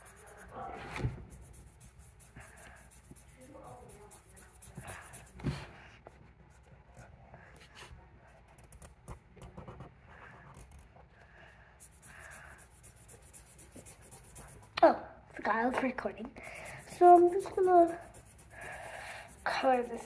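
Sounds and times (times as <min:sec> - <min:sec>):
marker rubbing on paper: 0:00.0 - 0:14.8, 0:15.4 - 0:20.0.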